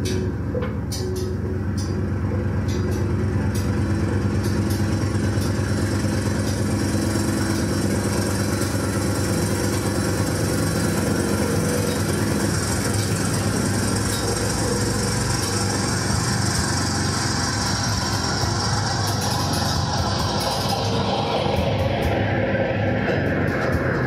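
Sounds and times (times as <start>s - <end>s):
noise music drone: 0.0s - 24.0s.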